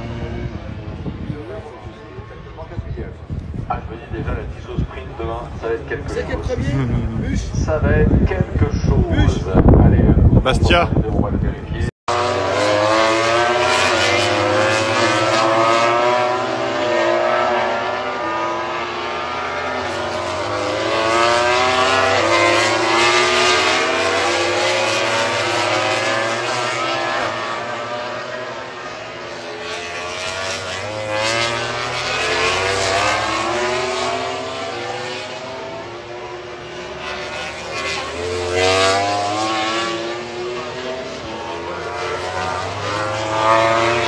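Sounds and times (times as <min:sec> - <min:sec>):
racing motorcycle engines revving: 0:00.0 - 0:44.0.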